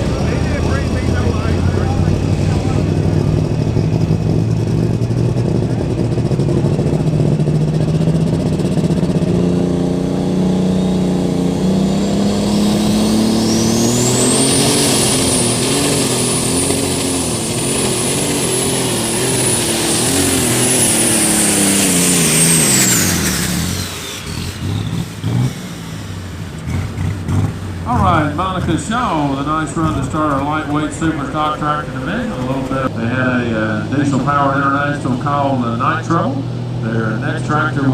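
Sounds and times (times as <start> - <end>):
tractor engine under load: 0.0 - 10.6, 11.5 - 37.9
high turbo whine: 0.0 - 37.9.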